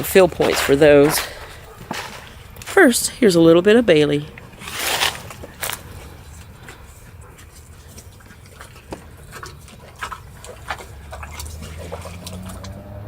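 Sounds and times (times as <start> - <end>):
dog chewing and crunching: 0.0 - 13.0
low steady hum: 0.0 - 13.0.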